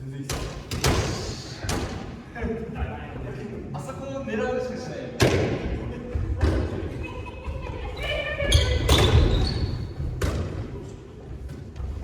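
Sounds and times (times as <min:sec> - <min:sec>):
voices: 0:00.0 - 0:09.6
sharp thuds echoing in a hall: 0:00.2 - 0:03.4, 0:05.1 - 0:12.0.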